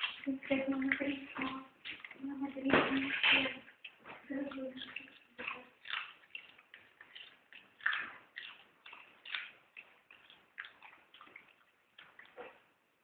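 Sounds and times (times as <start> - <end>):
dogs crunching carrots: 0.0 - 12.7.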